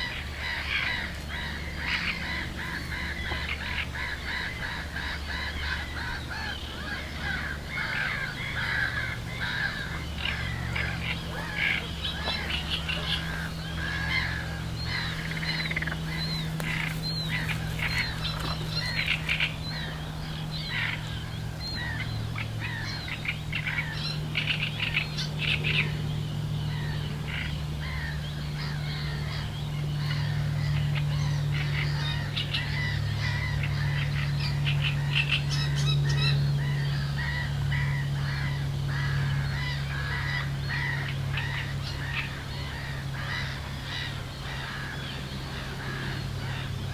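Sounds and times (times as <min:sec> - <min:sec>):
birds chirping and calling: 0:00.0 - 0:46.9.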